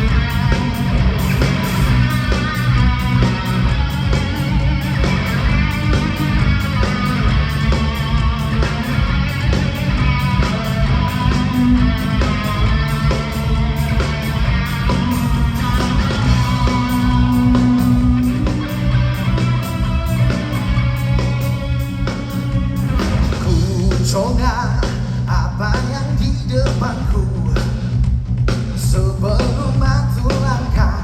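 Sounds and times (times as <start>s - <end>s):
electric guitar: 0.0s - 27.9s
bass guitar: 0.0s - 31.0s
drums on a steady beat: 0.0s - 31.0s.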